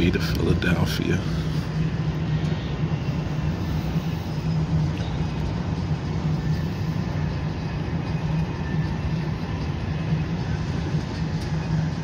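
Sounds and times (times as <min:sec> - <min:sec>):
low hum: 0:00.0 - 0:12.0
train wheels rumbling on rails: 0:00.0 - 0:12.0.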